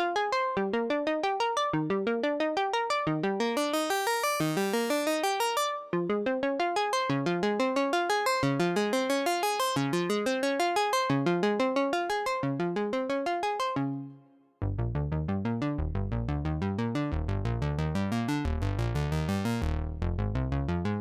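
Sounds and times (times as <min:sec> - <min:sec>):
synthesizer fast arpeggio: 0:00.0 - 0:13.9, 0:16.5 - 0:19.7.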